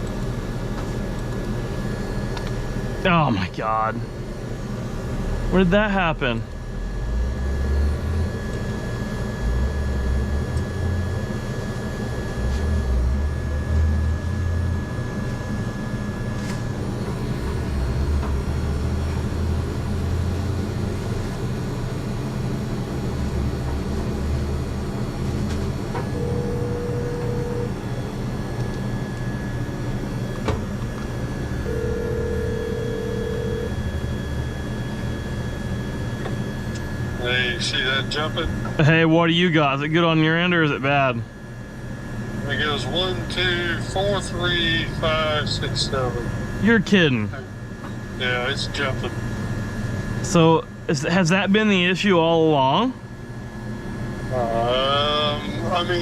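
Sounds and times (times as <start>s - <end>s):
high whine: 0.0s - 56.0s
mechanical hum with low rumble: 0.0s - 56.0s.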